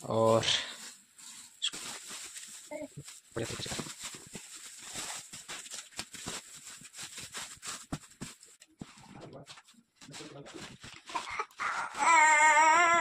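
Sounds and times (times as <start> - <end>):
plastic wrapping crinkling: 0.1 - 12.6.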